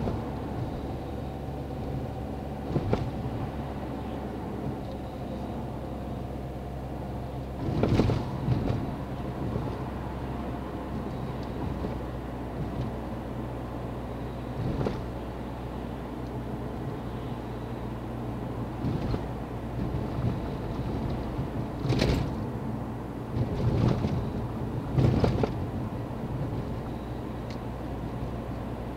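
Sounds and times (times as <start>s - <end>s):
car engine and road noise: 0.0s - 28.9s.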